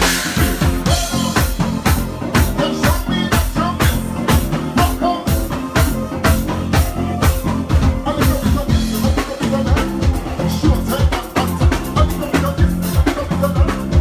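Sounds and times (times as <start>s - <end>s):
bass line: 0.0s - 14.0s
drum kit beat: 0.0s - 14.0s
live band playing uptempo groove: 0.0s - 14.0s.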